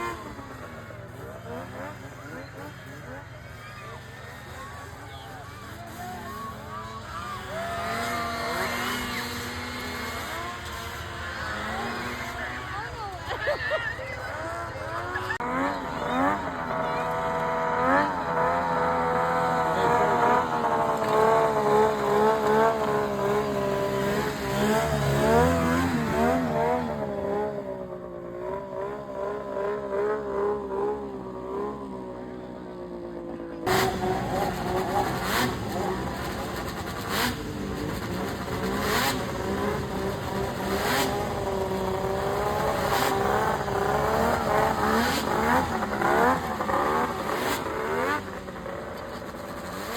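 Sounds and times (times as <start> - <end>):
snowmobile engines revving: 0.0 - 49.9.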